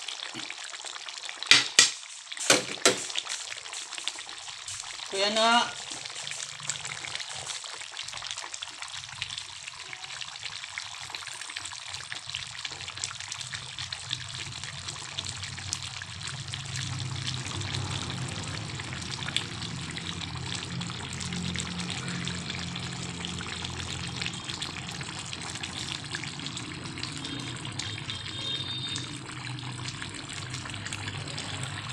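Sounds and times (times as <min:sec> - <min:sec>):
stew bubbling in a pan: 0:00.0 - 0:31.9.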